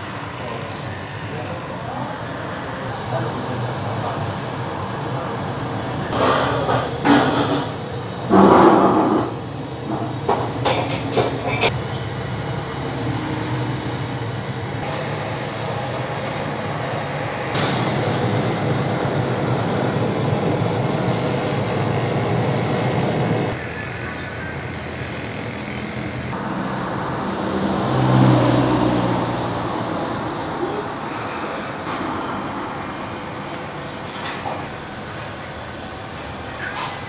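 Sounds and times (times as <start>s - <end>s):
mechanical rumble and hiss: 0.1s - 28.2s, 29.2s - 37.0s.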